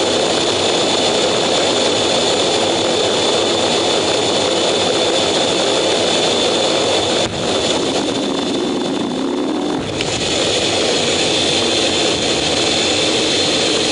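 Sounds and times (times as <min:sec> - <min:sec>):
jet engines roaring with whine: 0:00.0 - 0:13.9.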